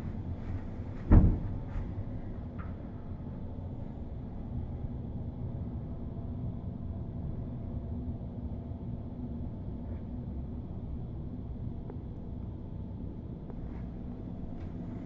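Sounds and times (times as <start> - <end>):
room background hum and rumble: 0.0 - 15.0.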